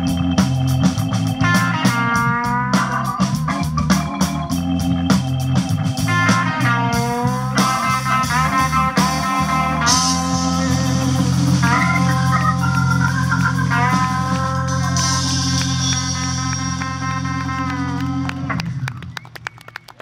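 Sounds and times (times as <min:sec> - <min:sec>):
drum kit: 0:00.0 - 0:19.2
electric guitar: 0:00.0 - 0:20.0
organ: 0:00.0 - 0:20.0.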